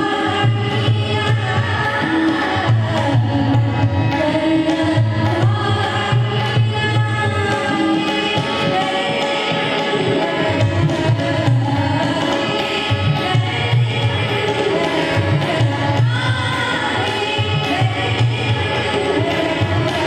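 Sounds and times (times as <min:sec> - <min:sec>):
tabla drum: 0:00.0 - 0:20.0
woman singing: 0:00.0 - 0:20.0.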